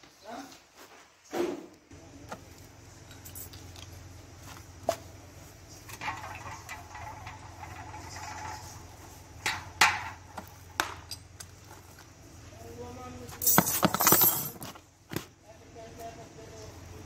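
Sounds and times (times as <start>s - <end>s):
steady low hum: 1.9s - 17.0s.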